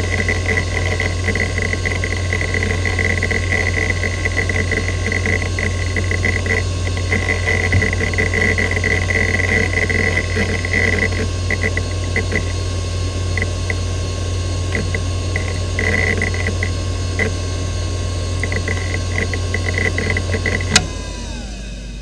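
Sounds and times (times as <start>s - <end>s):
hard drive spinning hum: 0.0s - 22.0s
hard drive heads clicking: 0.1s - 12.6s, 14.7s - 17.4s, 18.4s - 21.5s.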